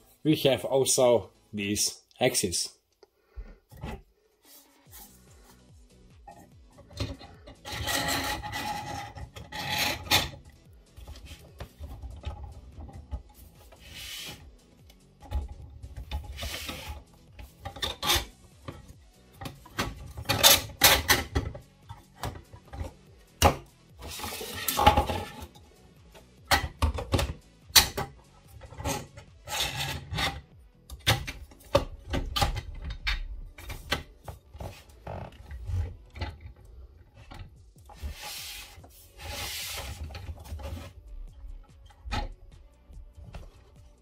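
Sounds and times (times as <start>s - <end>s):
plastic parts clicking and scraping: 6.2s - 44.0s.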